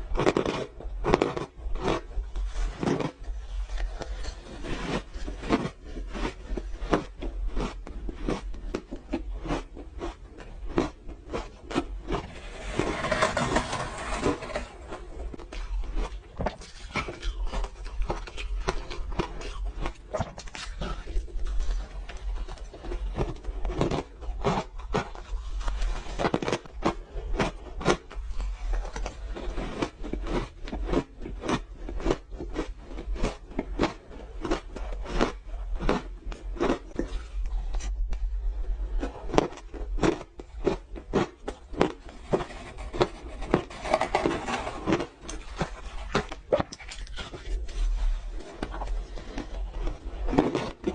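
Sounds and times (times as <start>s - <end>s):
ice crunching being chewed: 0.0s - 12.4s, 15.0s - 50.9s.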